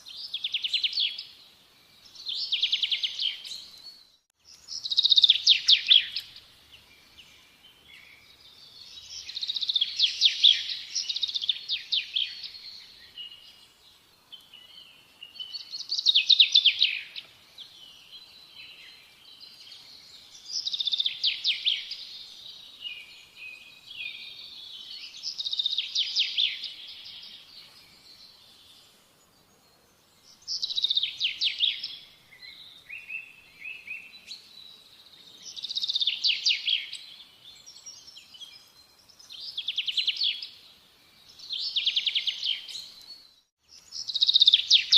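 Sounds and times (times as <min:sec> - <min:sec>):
songbird trilling and chirping: 0:00.0 - 0:01.4, 0:02.0 - 0:28.9, 0:30.2 - 0:44.9.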